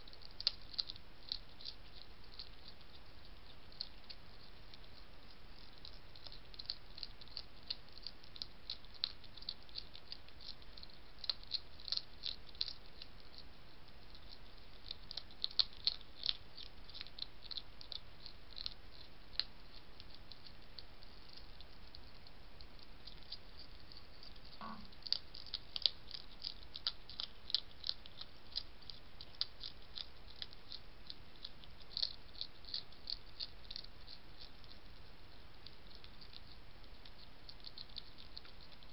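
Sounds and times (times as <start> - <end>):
hedgehog crunching dry food: 0.0 - 38.9.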